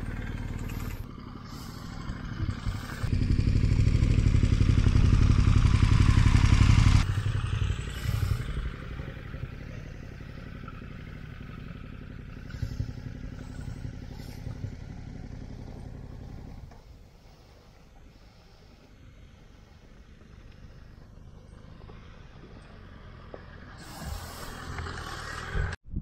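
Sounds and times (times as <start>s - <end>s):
motorcycle engine running: 0.0s - 25.8s.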